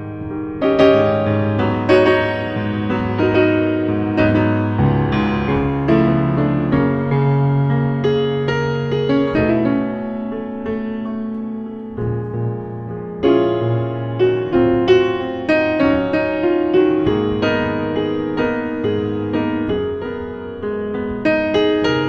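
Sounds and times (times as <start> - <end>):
solo jazz piano: 0.0 - 22.0.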